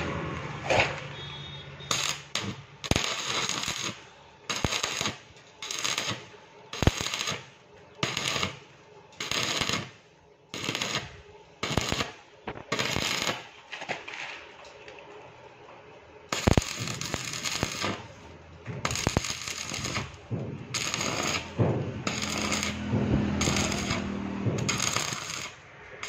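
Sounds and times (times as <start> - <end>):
welding arc crackling and sizzling: 0.0 - 14.6, 16.2 - 26.0.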